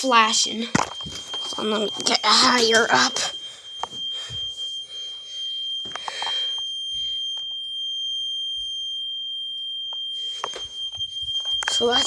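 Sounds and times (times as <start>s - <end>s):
fire alarm steady tone: 0.0s - 12.0s.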